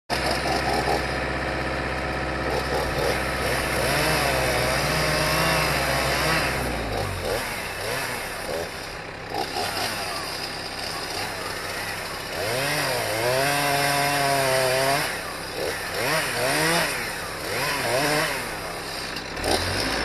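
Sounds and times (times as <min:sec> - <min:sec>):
chainsaw engine revving: 0:00.1 - 0:20.0.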